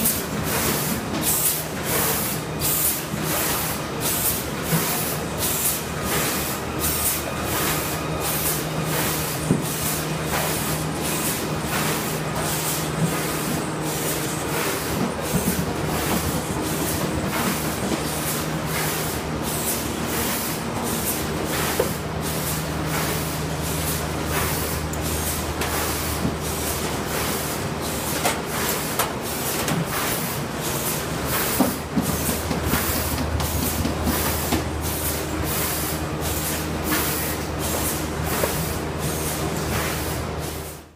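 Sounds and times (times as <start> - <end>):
conveyor motors humming: 0.0 - 40.9
machinery hisses and clicks: 0.0 - 40.9.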